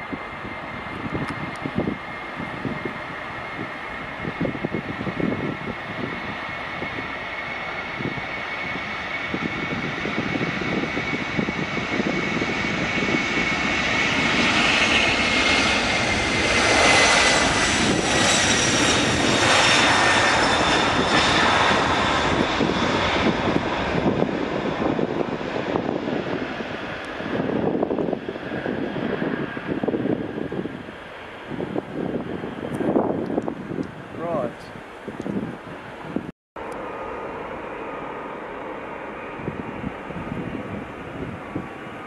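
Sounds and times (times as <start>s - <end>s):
jet airliner roar: 0.0s - 42.0s.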